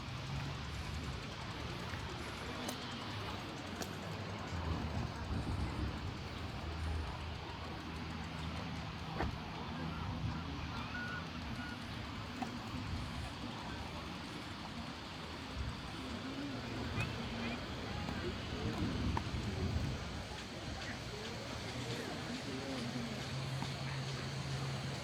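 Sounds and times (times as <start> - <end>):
faint clicks: 0.2 - 25.0.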